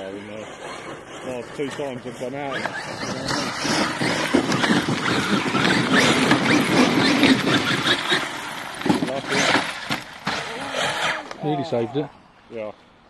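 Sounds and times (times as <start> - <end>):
rc truck drivetrain and gear noise: 0.0 - 11.9.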